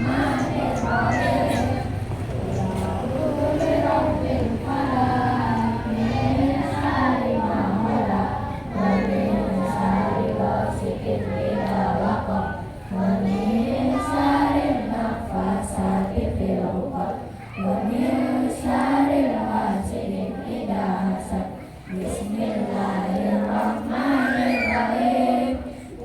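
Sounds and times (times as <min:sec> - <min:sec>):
children singing in unison: 0:00.0 - 0:26.0.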